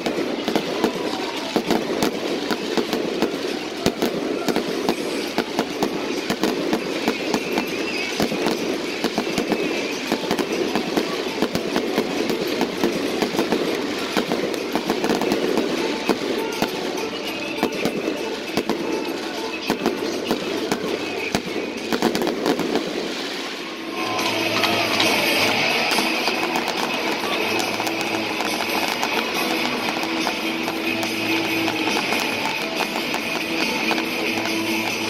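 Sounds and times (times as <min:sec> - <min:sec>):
fireworks bursting: 0:00.0 - 0:35.0
sharp bangs and crackles: 0:00.0 - 0:35.0.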